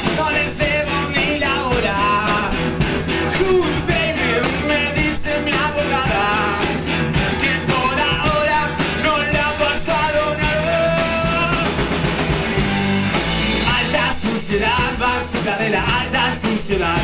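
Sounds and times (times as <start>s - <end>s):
drums: 0.0s - 17.0s
electric guitars: 0.0s - 17.0s.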